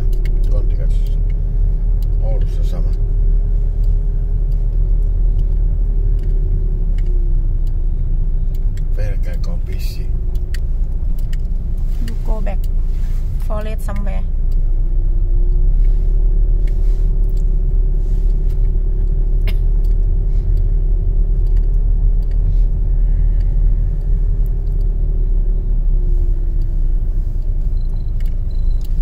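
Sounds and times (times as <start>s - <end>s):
car tyres and engine rumbling: 0.0s - 29.0s
even hum: 0.0s - 29.0s.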